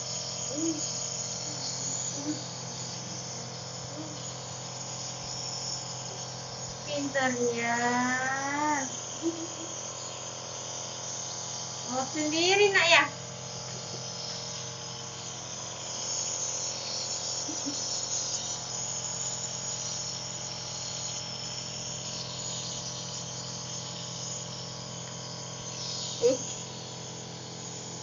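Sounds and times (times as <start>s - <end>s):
nebulizer compressor humming: 0.0s - 28.0s.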